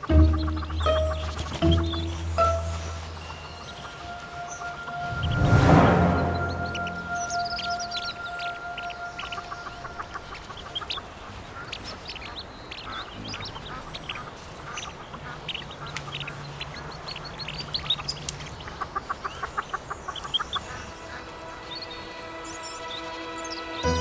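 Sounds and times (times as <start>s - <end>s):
ducklings peeping: 0.0s - 5.4s, 6.4s - 24.0s.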